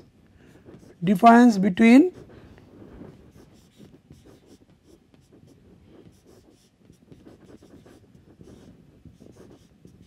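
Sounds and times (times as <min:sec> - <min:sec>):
marker writing on whiteboard: 0:00.0 - 0:01.3, 0:02.0 - 0:10.0.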